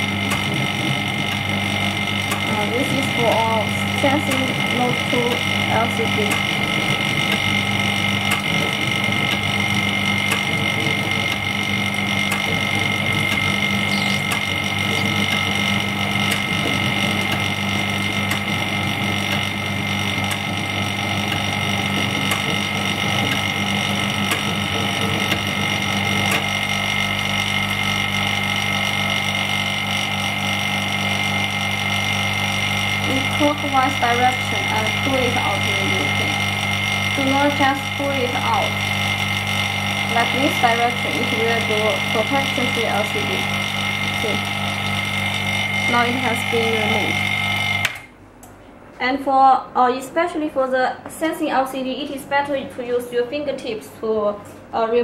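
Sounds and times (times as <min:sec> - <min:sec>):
vacuum pump humming: 0:00.0 - 0:48.8.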